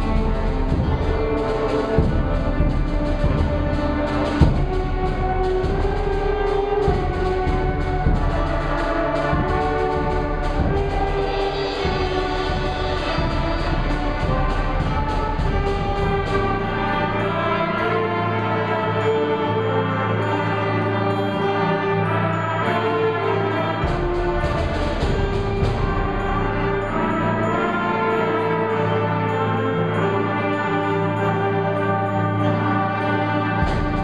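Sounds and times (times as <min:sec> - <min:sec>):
concert band playing: 0:00.0 - 0:19.5, 0:21.6 - 0:29.3, 0:32.6 - 0:34.0
percussion strokes: 0:00.0 - 0:34.0.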